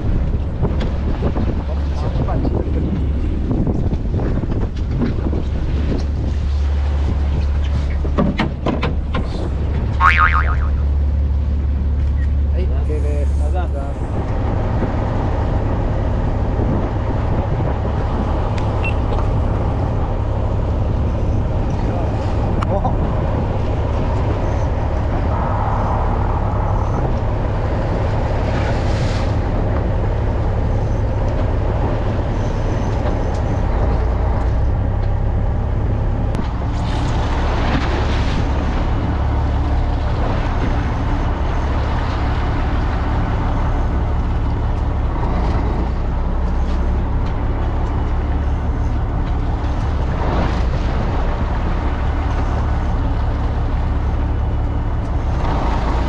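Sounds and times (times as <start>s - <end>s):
boat engine droning: 0.0s - 56.0s
water noise: 0.0s - 56.0s.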